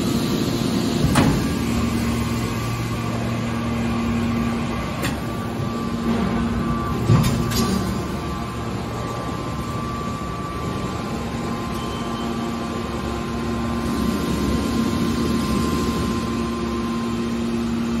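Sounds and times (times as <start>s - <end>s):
hydraulic baler humming and whining: 0.0s - 18.0s.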